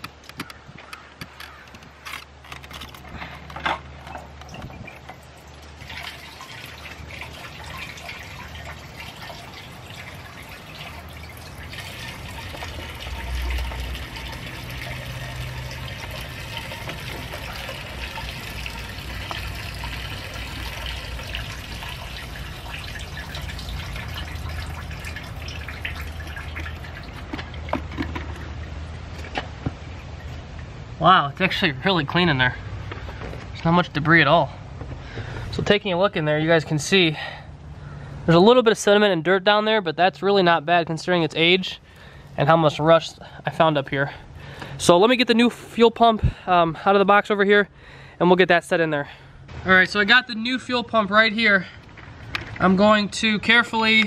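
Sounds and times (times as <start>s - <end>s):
fuel pouring and trickling: 2.4s - 33.5s, 40.1s - 54.0s.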